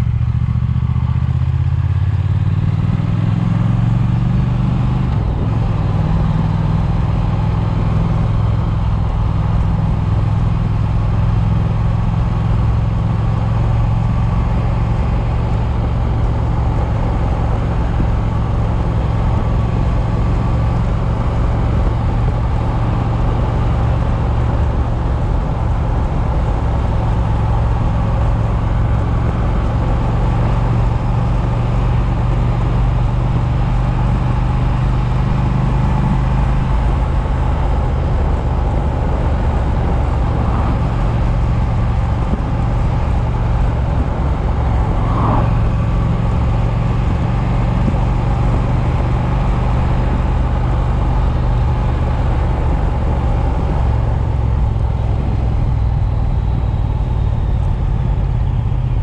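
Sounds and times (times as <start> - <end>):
motorcycle engine running: 0.0 - 59.0
wind noise on microphone: 1.9 - 59.0.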